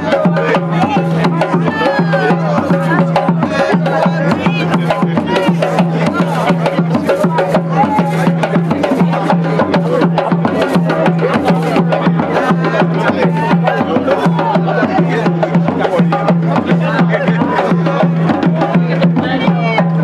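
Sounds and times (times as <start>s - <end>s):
hand drum rhythm: 0.0s - 20.0s.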